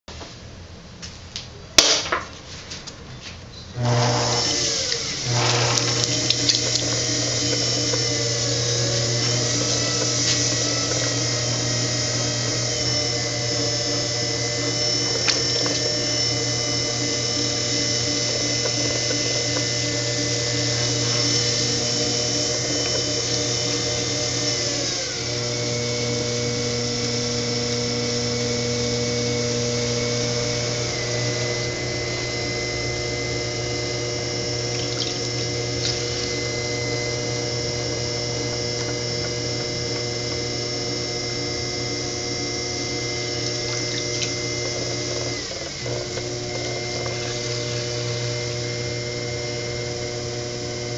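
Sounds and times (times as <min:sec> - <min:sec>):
potter's wheel motor humming: 0:03.6 - 0:50.9.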